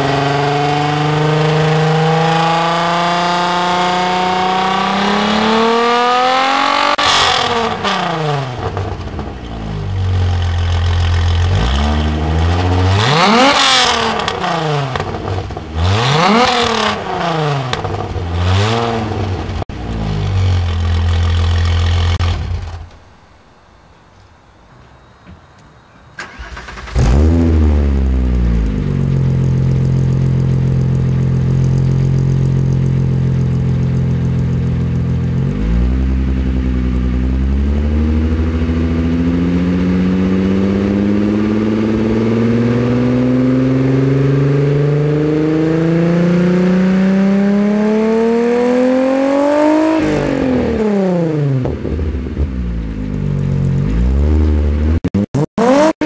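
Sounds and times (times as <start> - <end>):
car engine idling and revving: 0.0 - 23.0, 26.2 - 56.0.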